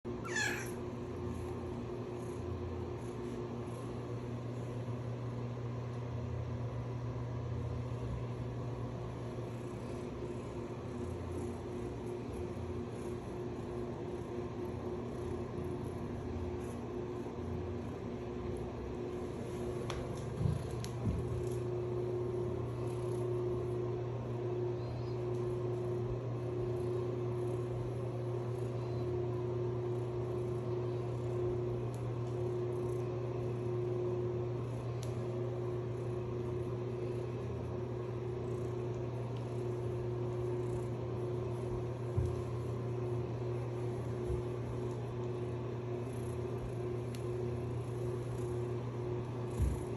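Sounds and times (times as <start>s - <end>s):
low hum: 0.1s - 49.9s.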